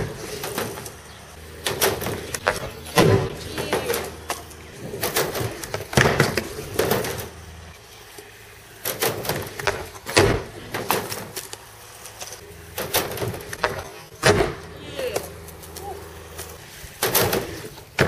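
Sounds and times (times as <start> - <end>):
skateboard wheels rolling: 0.0 - 18.0.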